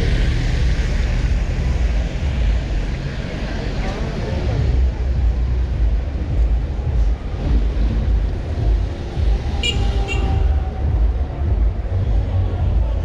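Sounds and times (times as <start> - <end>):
traffic rumble on wet street: 0.0 - 13.0.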